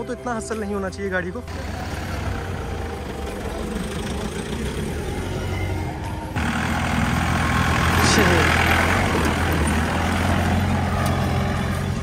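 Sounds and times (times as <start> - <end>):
vehicle engines low hum: 1.4 - 12.0
engine running close by: 1.5 - 12.0.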